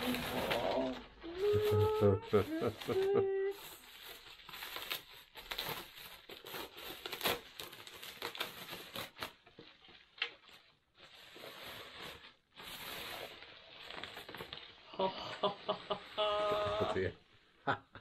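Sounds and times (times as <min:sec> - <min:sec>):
bubble wrap crinkling: 0:00.0 - 0:17.1.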